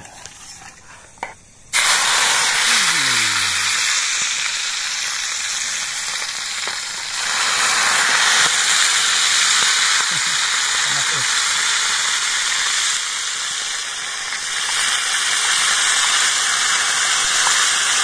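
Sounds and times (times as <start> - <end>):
food sizzling in hot oil: 1.7 - 18.0.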